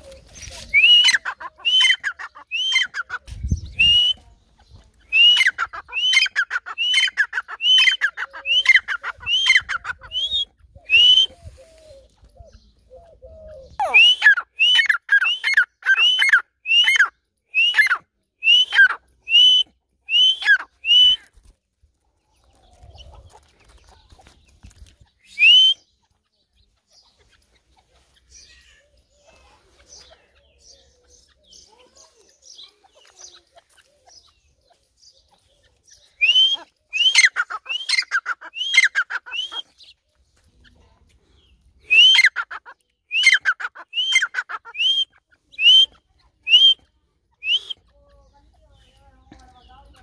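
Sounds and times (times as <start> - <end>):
partridge calling: 0.0 - 21.3, 22.5 - 40.8, 41.4 - 50.0.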